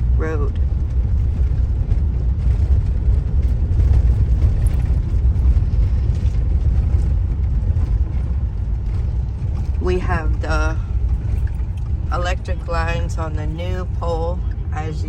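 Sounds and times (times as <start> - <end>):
vehicle driving on rough road: 0.0 - 15.0.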